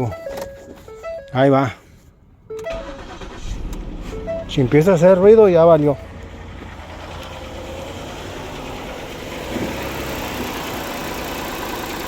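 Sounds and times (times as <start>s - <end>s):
car engine idling: 2.2s - 12.0s.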